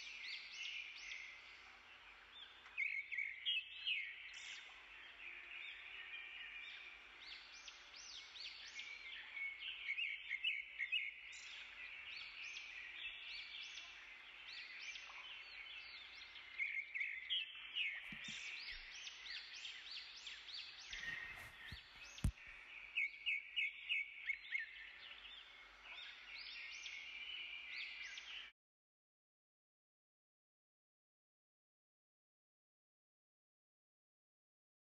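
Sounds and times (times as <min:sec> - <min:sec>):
small birds chirping: 0:00.0 - 0:28.5.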